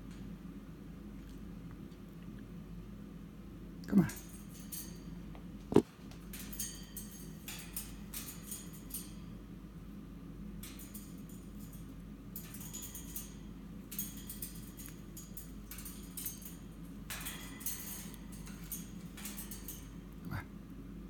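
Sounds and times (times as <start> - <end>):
steady low hum: 0.0 - 21.0
bird pecking and husking seeds: 3.9 - 21.0.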